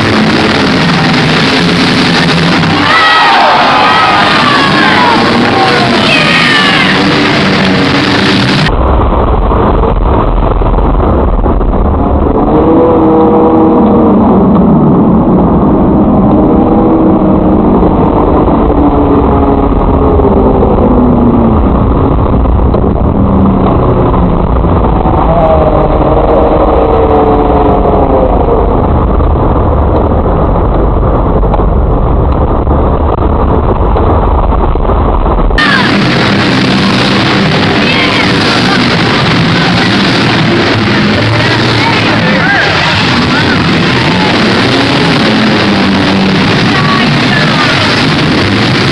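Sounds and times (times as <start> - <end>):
engines revving: 0.0 - 48.9.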